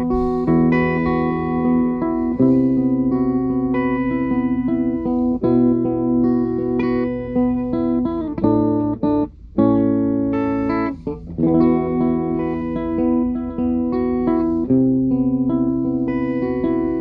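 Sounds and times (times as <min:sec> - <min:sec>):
clean electric guitar chords: 0:00.0 - 0:17.0.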